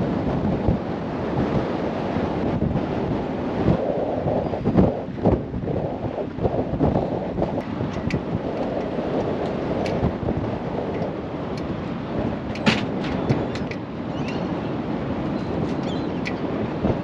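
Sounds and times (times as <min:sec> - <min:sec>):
boat running rumble: 0:00.0 - 0:17.0
wind buffeting microphone: 0:00.0 - 0:17.0.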